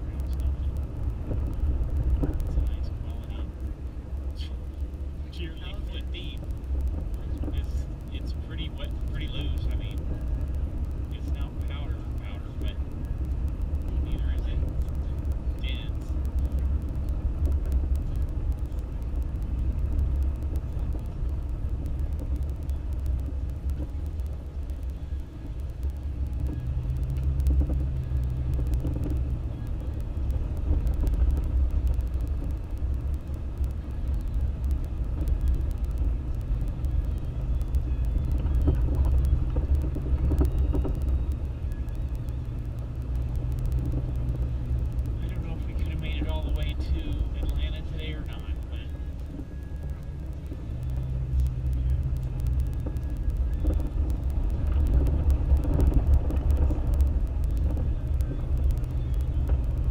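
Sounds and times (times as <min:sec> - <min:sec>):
engine and tyres rumbling: 0:00.0 - 0:59.9
low engine hum: 0:00.0 - 0:59.9.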